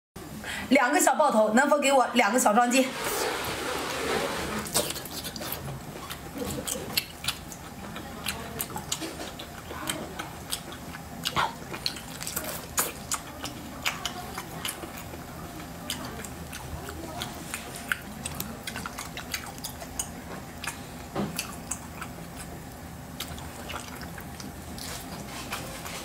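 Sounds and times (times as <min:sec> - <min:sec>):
person chewing with wet smacking: 0:04.6 - 0:26.0.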